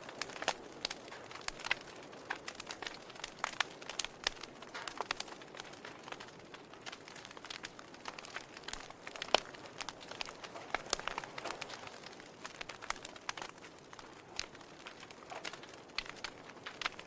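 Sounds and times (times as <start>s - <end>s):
soft hiss of fire: 0.0s - 17.0s
wood fire crackling: 0.0s - 17.0s.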